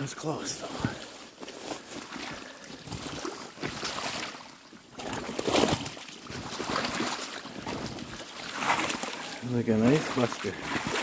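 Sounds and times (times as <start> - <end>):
footsteps splashing through water and ice: 0.0 - 11.0.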